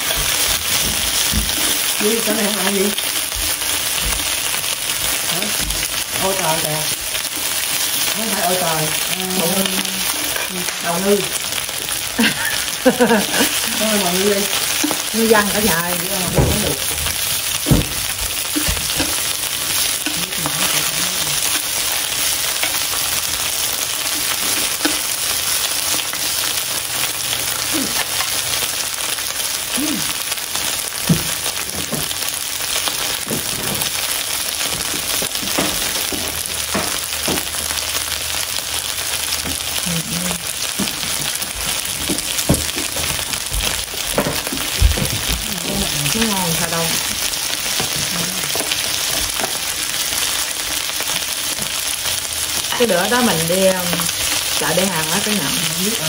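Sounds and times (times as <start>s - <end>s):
meat sizzling in hot fat: 0.0s - 56.0s.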